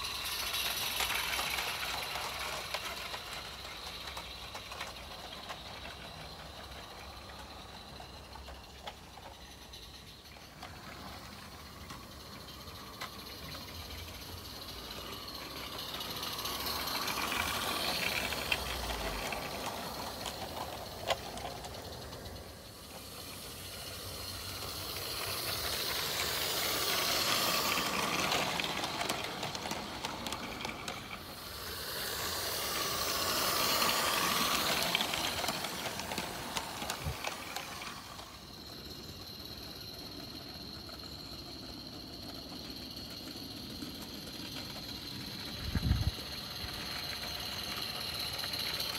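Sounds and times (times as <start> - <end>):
steam locomotive hiss and exhaust: 0.0 - 48.9
wheels rattling over track: 0.0 - 48.9.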